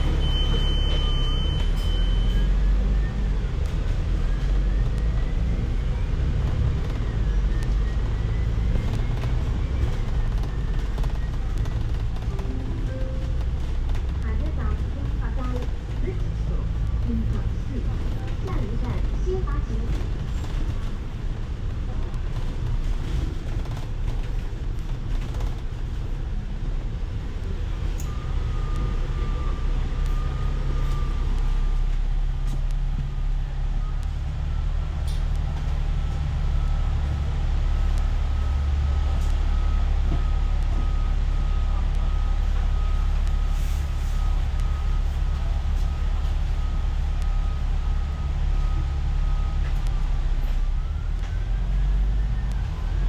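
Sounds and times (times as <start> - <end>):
bus engine and road rumble: 0.0 - 53.0.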